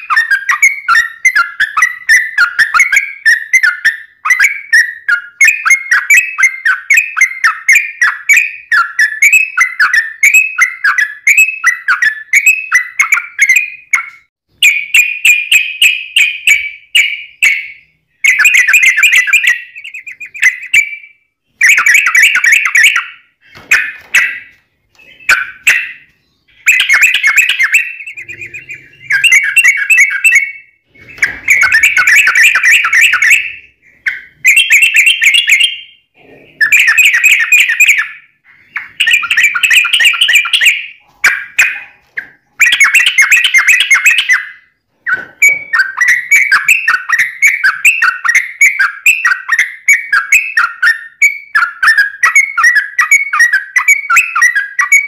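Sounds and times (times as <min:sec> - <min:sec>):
bird singing warbled phrases: 0:00.0 - 0:55.0.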